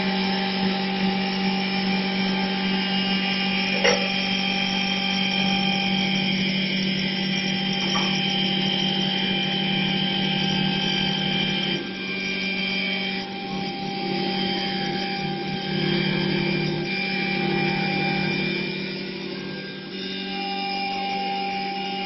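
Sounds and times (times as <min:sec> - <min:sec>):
cutter shaving spinning wood: 0:00.0 - 0:22.0
lathe motors whining: 0:00.0 - 0:22.0.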